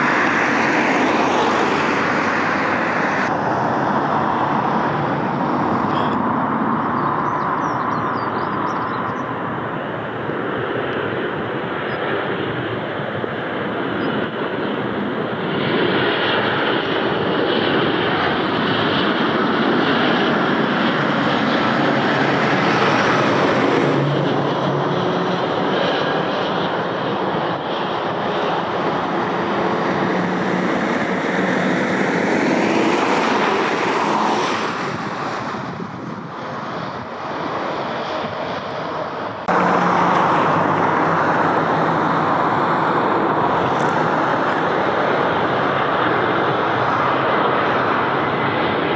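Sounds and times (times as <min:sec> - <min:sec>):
airliner engines running: 0:00.0 - 0:48.9.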